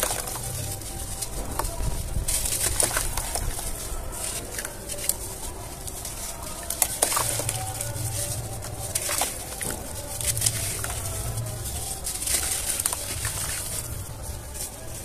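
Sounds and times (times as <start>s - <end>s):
water sloshing and splashing: 0.0s - 15.0s
wet crackles of crumbling cement: 0.0s - 15.0s.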